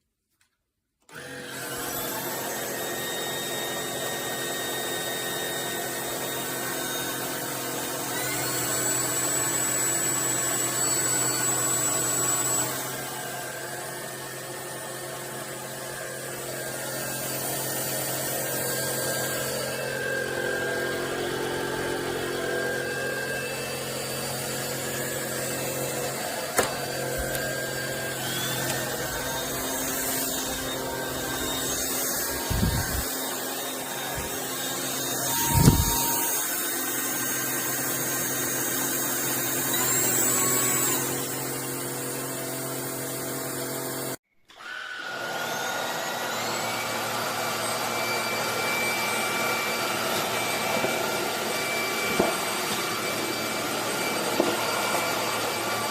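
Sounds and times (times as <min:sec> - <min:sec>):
stick vacuum running: 0:01.1 - 0:55.9.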